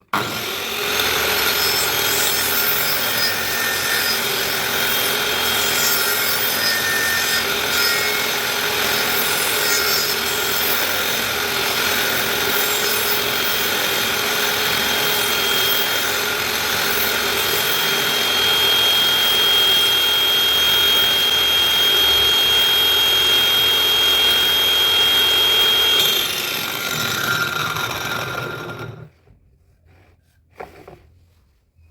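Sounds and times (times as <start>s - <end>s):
power tool working wood: 0.0s - 29.1s.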